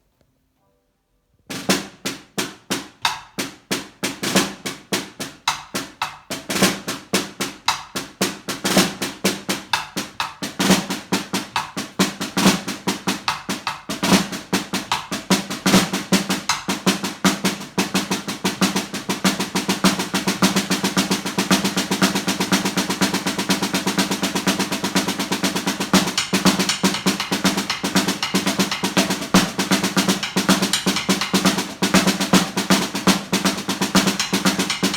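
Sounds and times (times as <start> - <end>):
snare drum strokes: 1.5 - 34.9.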